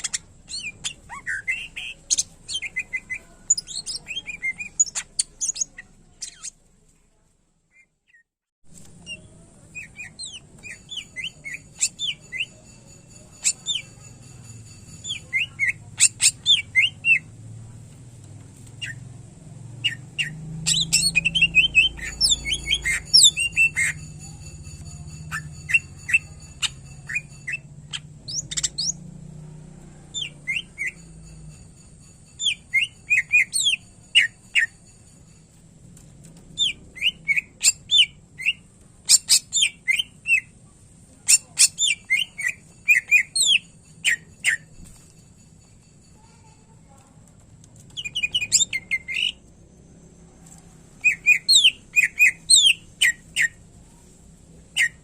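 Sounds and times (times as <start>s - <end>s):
bird singing chirps and trills: 0.0s - 6.6s, 8.9s - 17.4s, 18.7s - 29.4s, 30.1s - 35.4s, 36.3s - 40.6s, 41.3s - 45.0s, 47.8s - 50.2s, 51.0s - 55.0s.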